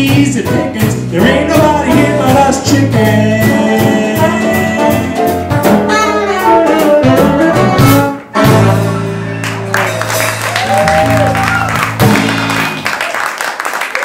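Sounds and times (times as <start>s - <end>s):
jazz band playing: 0.0s - 13.1s.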